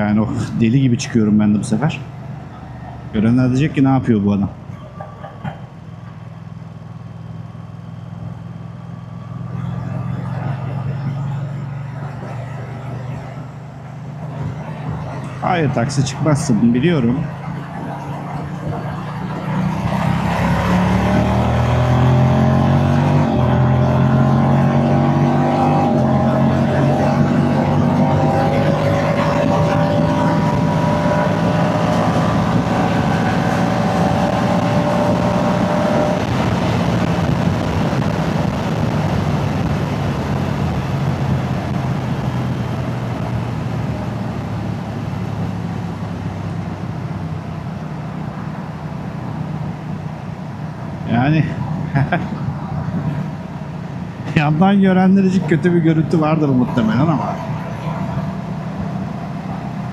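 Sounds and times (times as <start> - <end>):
wind and road noise: 0.0 - 59.9
motorcycle engine accelerating: 5.4 - 59.9.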